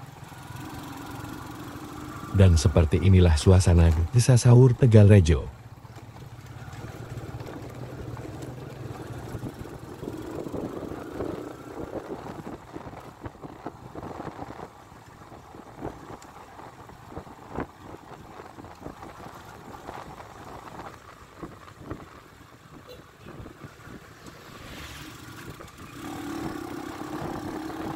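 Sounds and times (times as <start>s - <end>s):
motorcycle engine running: 0.0s - 4.2s, 5.5s - 27.9s
wind and road noise: 0.0s - 27.9s.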